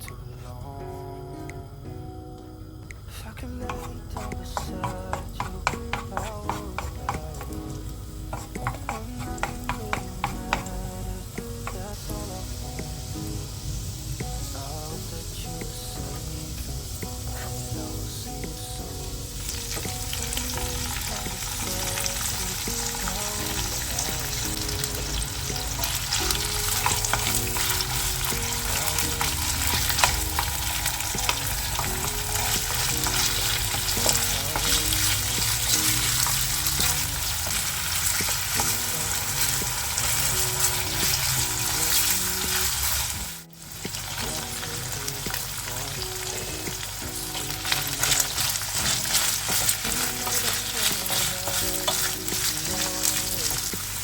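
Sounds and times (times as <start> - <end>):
food sizzling in hot oil: 3.6 - 54.0.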